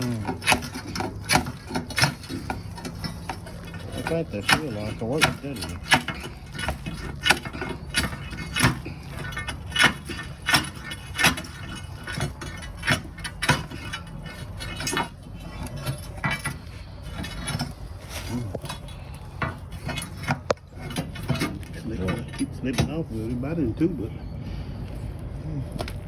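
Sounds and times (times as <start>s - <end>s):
sharp knocks and metallic clinks: 0.0s - 23.9s
steady low rumble: 0.0s - 26.0s.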